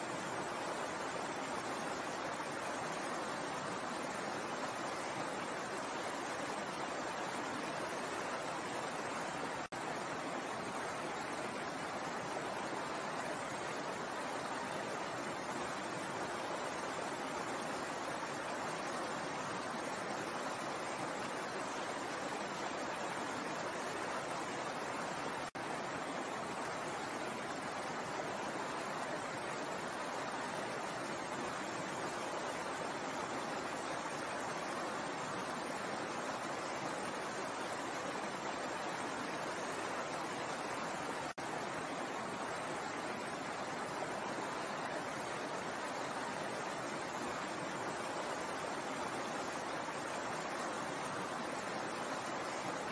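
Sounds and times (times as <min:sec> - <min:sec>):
stream babbling over stones: 0:00.0 - 0:52.9.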